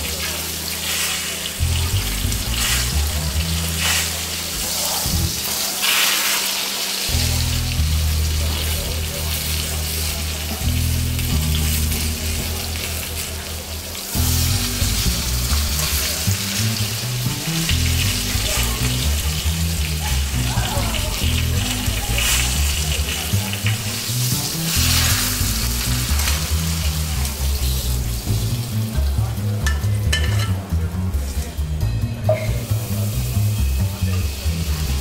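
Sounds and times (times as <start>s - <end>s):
steak sizzling in oil: 0.0s - 30.6s, 32.6s - 35.0s
upbeat instrumental music: 0.0s - 35.0s.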